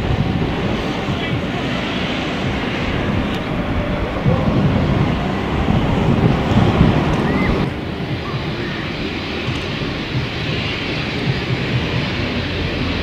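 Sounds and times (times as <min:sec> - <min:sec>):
steam locomotive heavy exhaust: 0:00.0 - 0:13.0.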